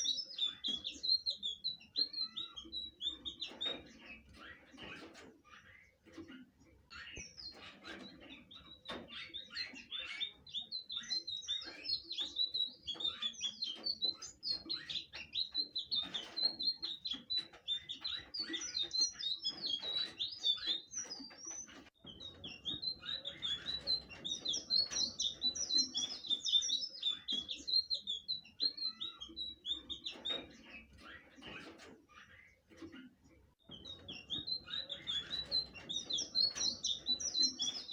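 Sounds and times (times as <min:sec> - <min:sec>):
bird singing chirps and trills: 0:00.0 - 0:37.9.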